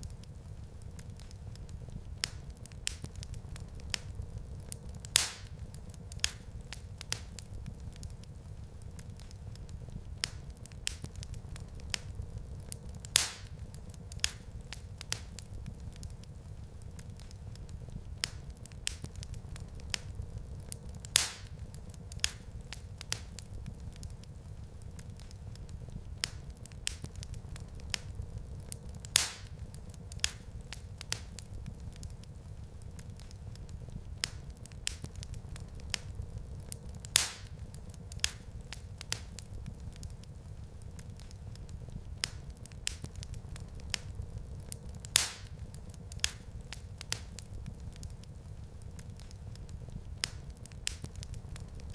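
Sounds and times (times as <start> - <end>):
sharp pops and snaps: 0.0 - 51.9
wood fire crackling: 0.0 - 51.9.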